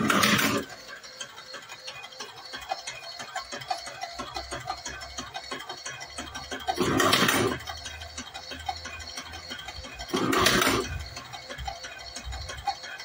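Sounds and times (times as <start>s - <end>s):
small machine clicks: 0.0s - 13.0s.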